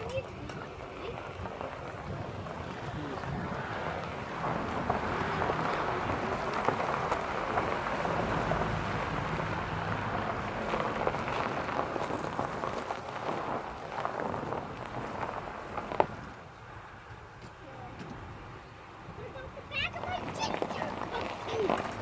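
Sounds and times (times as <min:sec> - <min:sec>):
road and tyre noise: 0:00.0 - 0:22.0.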